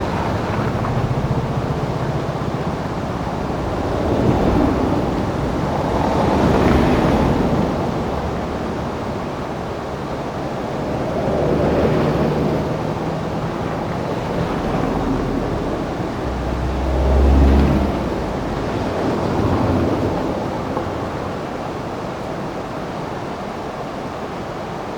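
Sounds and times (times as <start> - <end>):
whitewater rushing: 0.0 - 24.9
wind buffeting microphone: 0.0 - 24.9.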